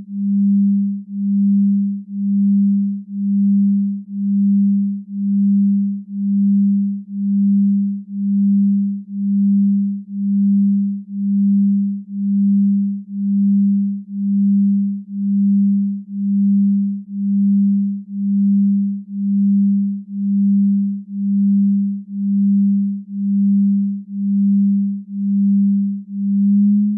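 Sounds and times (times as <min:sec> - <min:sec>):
pulsing low electronic tone: 0:00.0 - 0:26.9.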